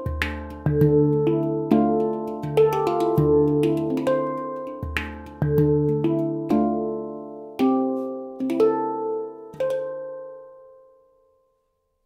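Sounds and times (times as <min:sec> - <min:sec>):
handpan ringing notes: 0:00.0 - 0:11.5.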